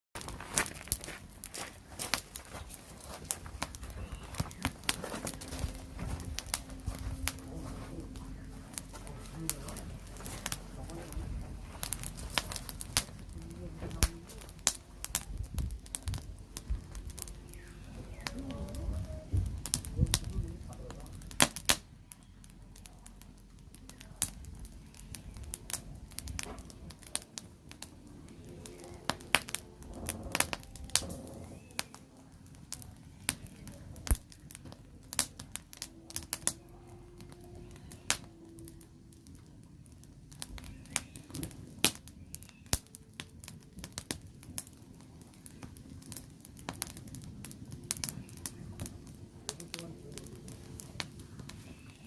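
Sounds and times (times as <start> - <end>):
firewood crackling and popping: 0.2 - 52.0.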